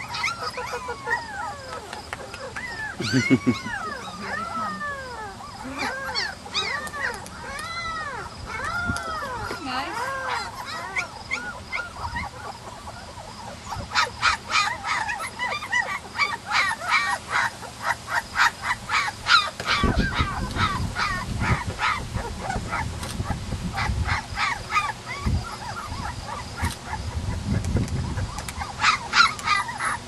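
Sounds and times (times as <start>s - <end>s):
puppies squealing and crying: 0.0s - 30.0s.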